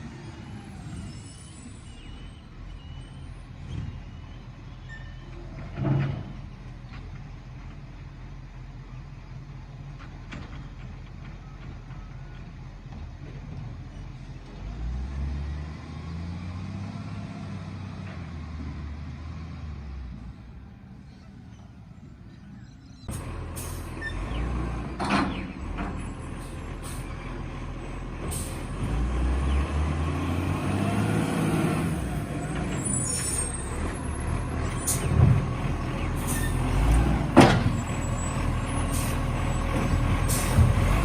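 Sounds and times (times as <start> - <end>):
garbage truck diesel engine: 0.0 - 41.0.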